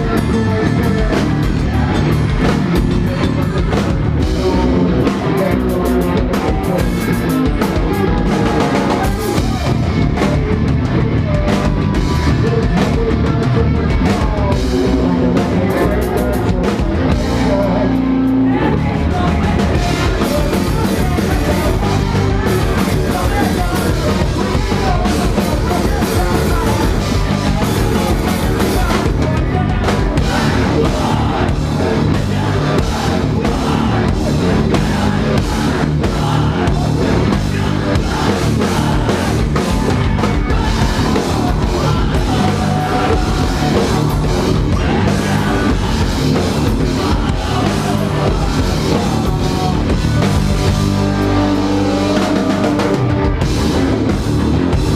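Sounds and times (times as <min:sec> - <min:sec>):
drum kit: 0:00.0 - 0:54.9
rock band playing live: 0:00.0 - 0:54.9.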